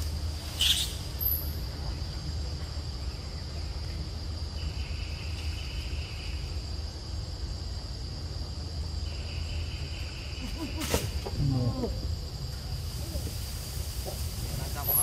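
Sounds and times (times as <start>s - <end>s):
high-pitched insect hum: 0.0s - 15.0s
lower insect buzzing chorus: 0.0s - 15.0s.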